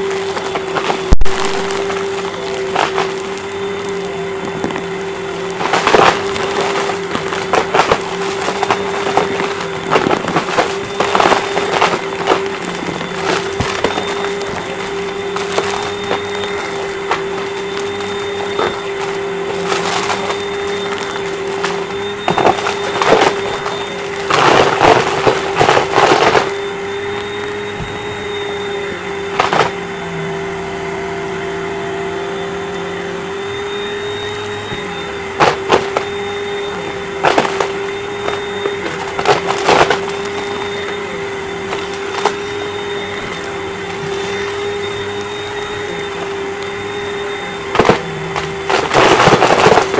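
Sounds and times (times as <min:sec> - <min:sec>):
debris rattling through vacuum: 0:00.0 - 0:30.0, 0:33.3 - 0:49.9
vacuum cleaner motor whine: 0:00.0 - 0:49.9.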